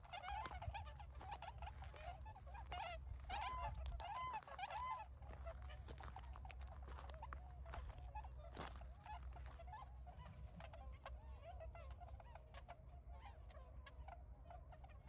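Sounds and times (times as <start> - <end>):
swans honking: 0.0 - 15.0.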